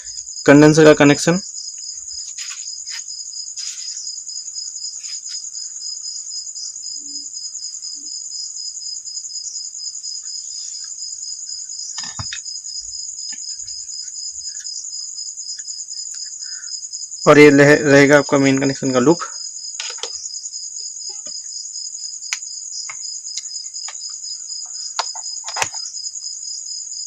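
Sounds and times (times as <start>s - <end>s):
insect chirping trill: 0.0s - 27.0s.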